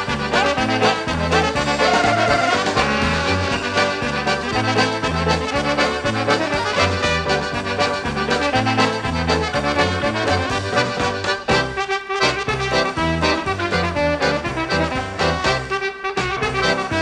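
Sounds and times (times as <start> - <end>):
accordion melody: 0.0 - 17.0
polka band playing: 0.0 - 17.0.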